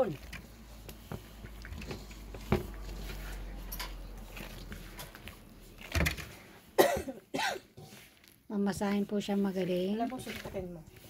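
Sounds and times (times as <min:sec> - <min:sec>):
hands kneading crumbly dough: 0:00.0 - 0:11.0.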